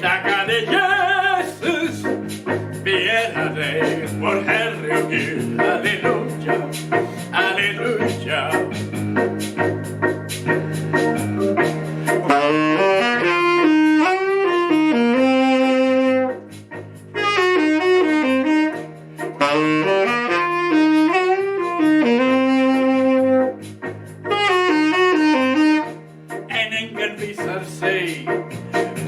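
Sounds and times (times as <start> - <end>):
bass and keyboard accompaniment: 0.0 - 29.0
saxophone melody: 0.0 - 29.0.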